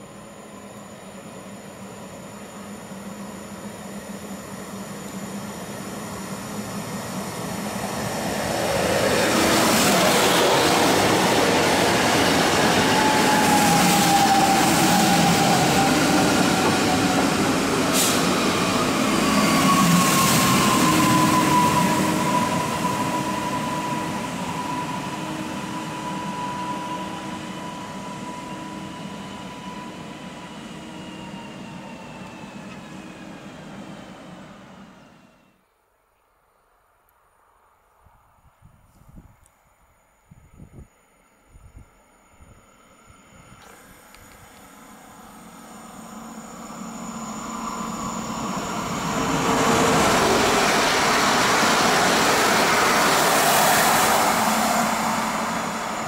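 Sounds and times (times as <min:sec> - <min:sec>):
train wheels rumbling on rails: 0:01.4 - 0:35.4, 0:43.4 - 0:56.0.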